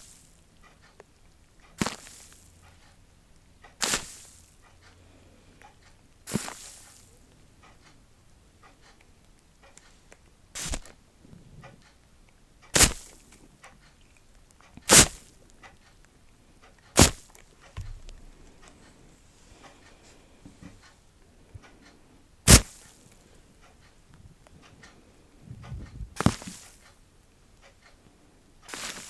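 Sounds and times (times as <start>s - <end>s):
faint small clicks and rustles: 0.0s - 29.0s.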